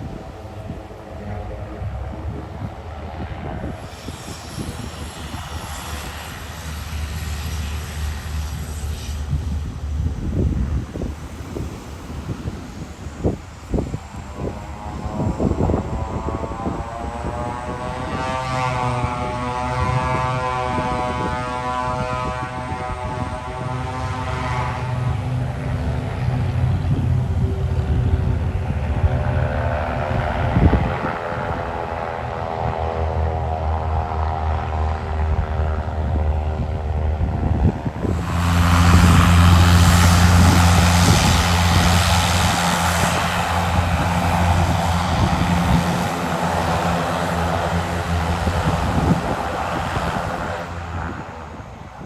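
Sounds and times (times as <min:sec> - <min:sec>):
gusty wind: 0:00.0 - 0:52.0
propeller airplane engines droning: 0:00.0 - 0:52.0.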